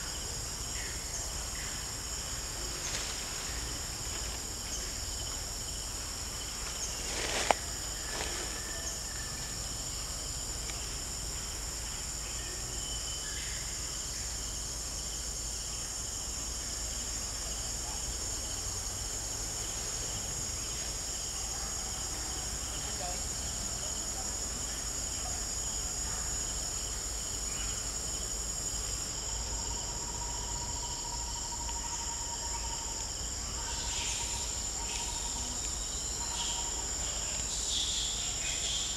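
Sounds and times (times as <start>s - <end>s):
forest insects droning: 0.0s - 38.9s.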